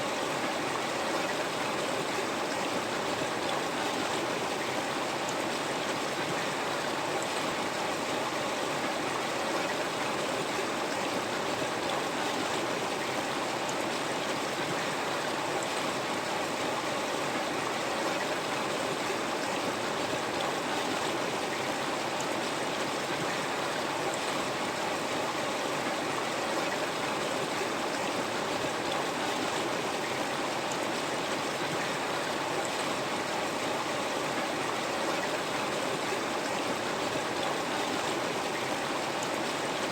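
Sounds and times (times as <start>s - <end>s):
river water flowing over stones: 0.1s - 39.9s.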